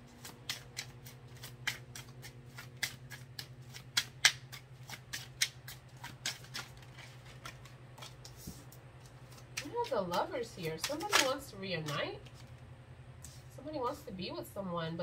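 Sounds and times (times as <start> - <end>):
cards being shuffled: 0.0 - 12.6.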